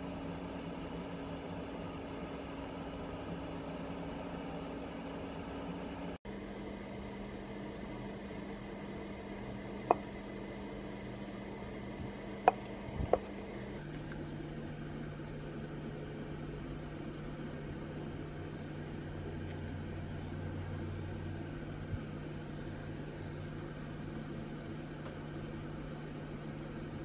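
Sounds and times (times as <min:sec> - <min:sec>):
ventilation hum: 0:00.0 - 0:27.0.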